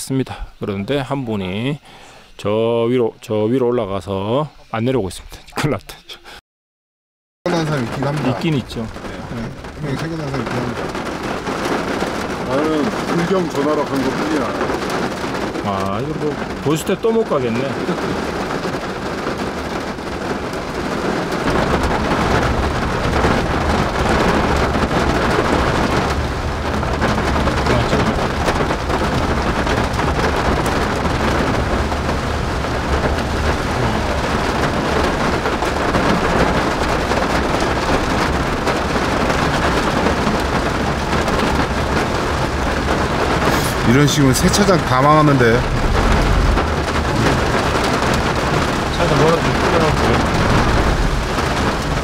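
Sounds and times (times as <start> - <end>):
car rumbling on wet road: 7.5 - 52.0
heavy rain on car roof: 7.5 - 52.0.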